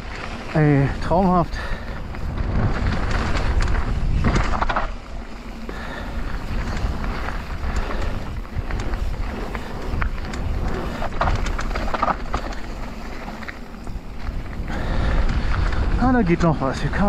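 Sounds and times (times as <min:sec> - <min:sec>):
bike rattling: 0:00.0 - 0:17.0
tyres crunching over stones: 0:00.0 - 0:17.0
wind on microphone: 0:01.0 - 0:17.0.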